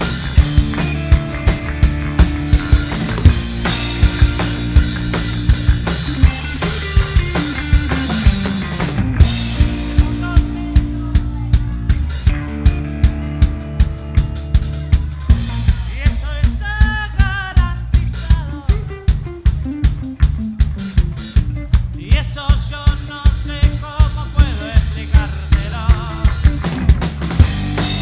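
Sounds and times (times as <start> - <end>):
bass and sustained instruments: 0.0 - 28.0
drum kit steady beat: 0.0 - 28.0.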